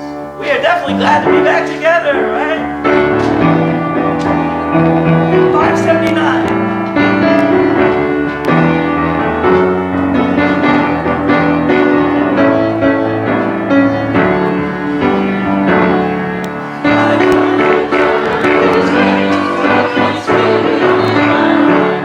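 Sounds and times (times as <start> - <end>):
worship music on keyboard: 0.0 - 22.0.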